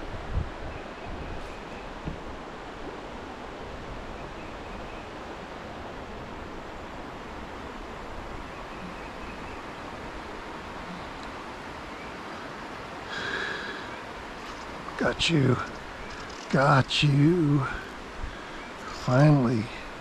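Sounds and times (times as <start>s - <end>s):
creek flowing: 0.0s - 20.0s.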